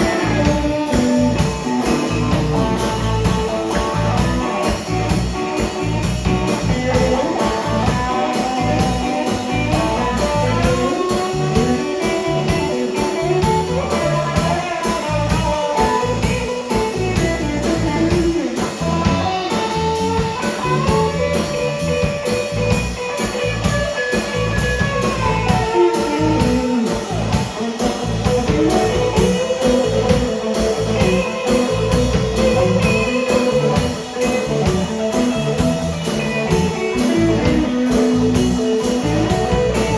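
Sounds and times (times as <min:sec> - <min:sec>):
blues band playing: 0:00.0 - 0:39.9
lead guitar solo: 0:00.0 - 0:39.9.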